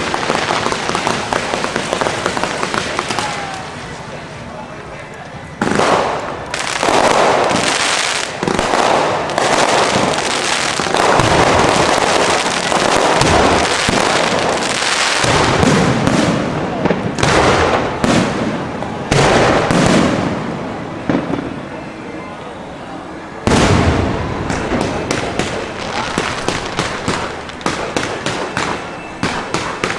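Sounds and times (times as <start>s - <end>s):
fireworks bursts and crackling: 0.0s - 29.9s
loud firework reports: 0.0s - 29.9s.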